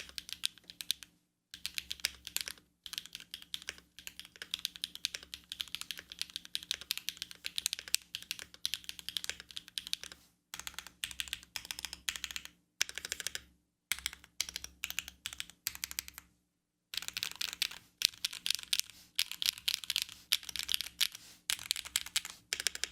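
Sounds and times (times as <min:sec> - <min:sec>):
mechanical keyboard typing: 0:00.0 - 0:01.0, 0:01.6 - 0:16.2, 0:17.0 - 0:22.9.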